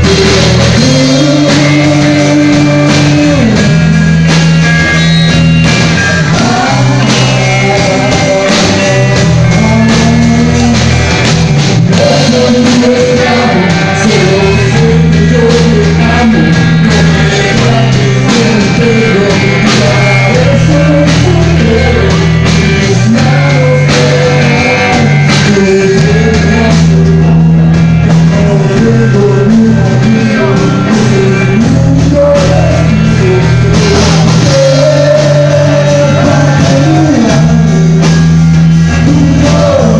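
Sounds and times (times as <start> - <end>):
drum kit: 0.0 - 39.9
electric guitars: 0.0 - 39.9
man singing into a microphone: 0.0 - 39.9.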